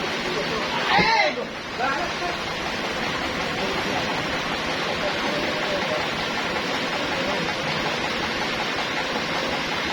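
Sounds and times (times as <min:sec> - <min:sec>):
faint voices: 0:00.0 - 0:09.9
sawmill machinery running: 0:00.0 - 0:09.9.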